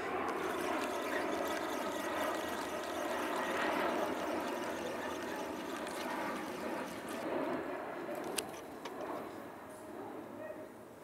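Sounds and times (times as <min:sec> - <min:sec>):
airliner jet noise overhead: 0:00.0 - 0:10.5.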